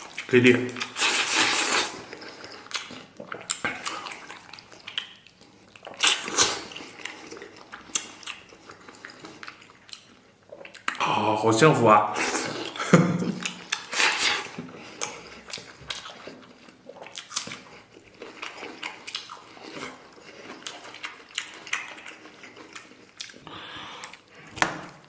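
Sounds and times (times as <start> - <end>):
chewing with mouth smacks: 0.0 - 11.0, 12.4 - 25.0.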